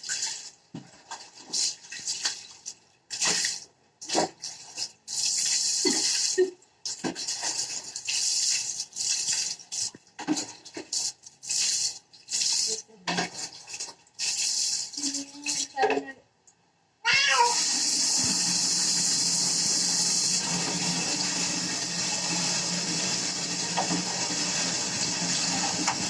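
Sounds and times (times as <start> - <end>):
water splashing and pouring: 0.0 - 15.8, 17.5 - 26.0.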